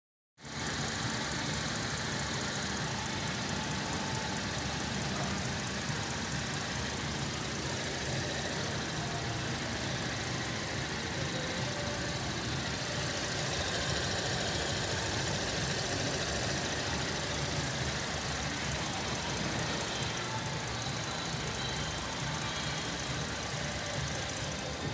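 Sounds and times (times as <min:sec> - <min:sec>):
car engine idling: 0:00.4 - 0:24.9.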